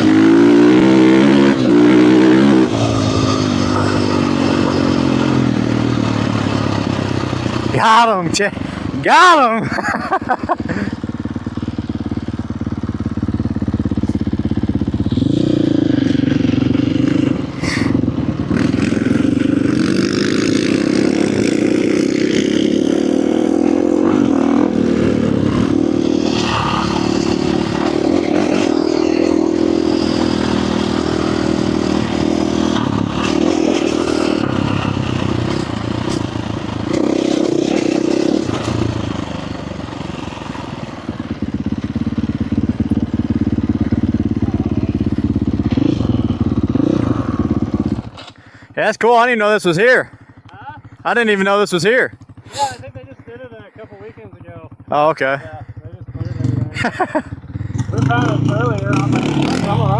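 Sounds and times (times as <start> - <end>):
dirt bike engine under throttle: 0.0 - 59.9.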